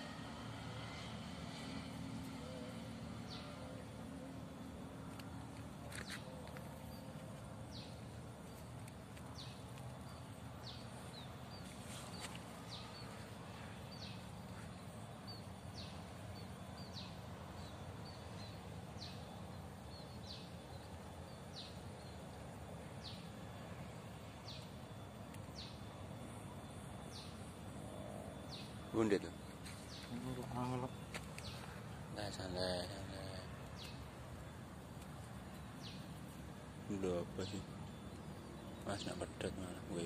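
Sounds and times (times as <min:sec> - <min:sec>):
outdoor background hiss: 0:00.0 - 0:40.0.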